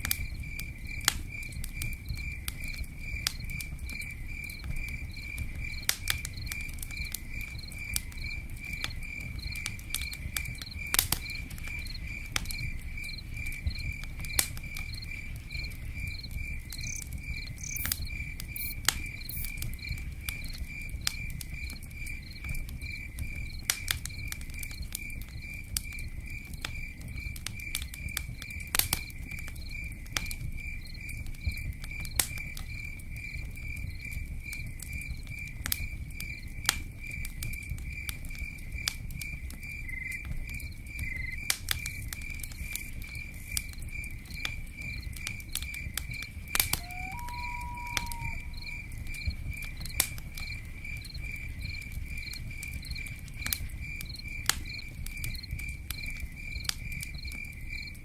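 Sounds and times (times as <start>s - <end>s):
cricket chirping: 0.0s - 58.0s
sharp crackles and ticks: 0.0s - 58.0s.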